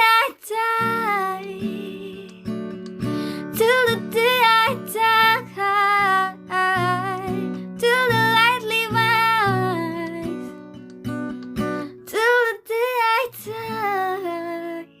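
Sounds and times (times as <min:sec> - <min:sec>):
woman singing: 0:00.0 - 0:10.5, 0:11.8 - 0:15.0
strummed acoustic guitar: 0:00.0 - 0:15.0.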